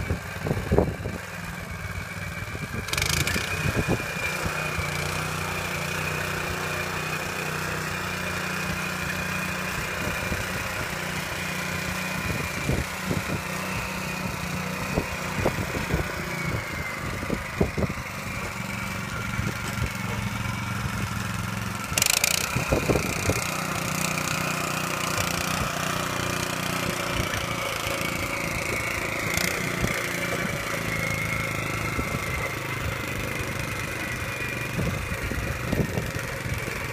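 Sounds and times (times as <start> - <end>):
small tiller engine running: 0.0 - 36.9
tines churning soil: 0.0 - 36.9.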